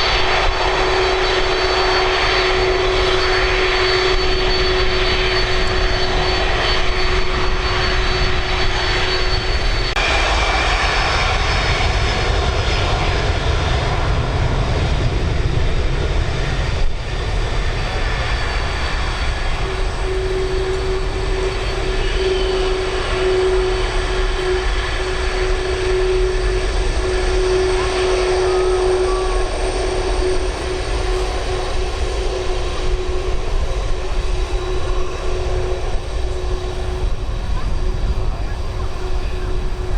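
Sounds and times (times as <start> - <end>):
jet engines rumbling and whining: 0.0 - 39.9.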